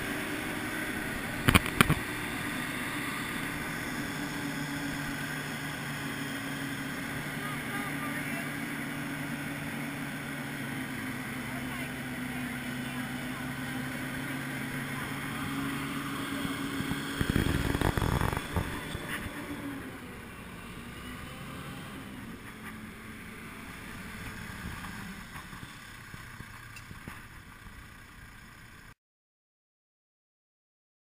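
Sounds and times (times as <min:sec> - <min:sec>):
crane engine running: 0:00.0 - 0:28.9.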